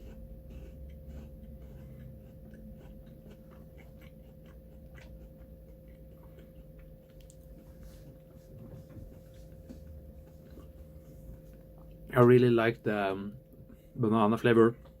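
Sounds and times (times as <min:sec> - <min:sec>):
person chewing wafer bar: 0:00.0 - 0:12.1
steady electrical hum: 0:00.0 - 0:15.0.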